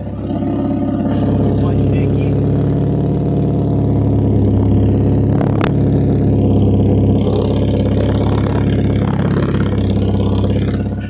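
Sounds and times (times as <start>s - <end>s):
car engine with exhaust leak: 0.0s - 11.0s.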